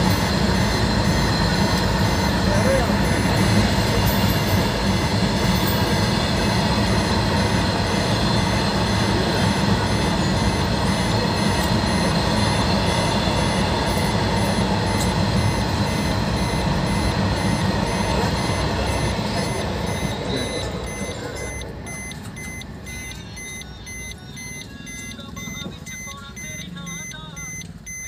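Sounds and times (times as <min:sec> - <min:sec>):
level crossing electronic beeping: 0:00.0 - 0:28.0.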